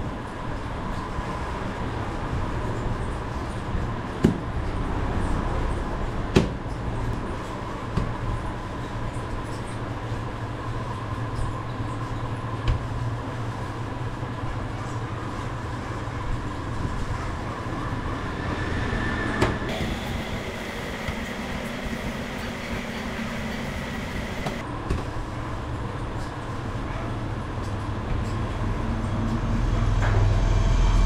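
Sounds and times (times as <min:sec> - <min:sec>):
low mechanical rumble: 0:00.0 - 0:31.0.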